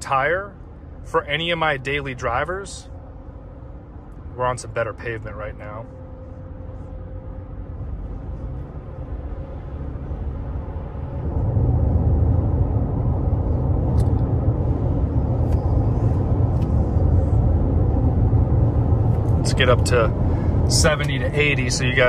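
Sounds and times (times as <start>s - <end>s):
road and tire noise: 0.0s - 22.0s.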